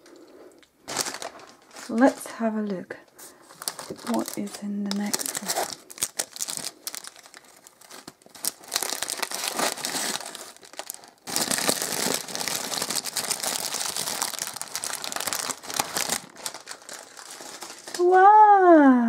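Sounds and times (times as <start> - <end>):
cellophane wrap crinkling: 0.1 - 18.2.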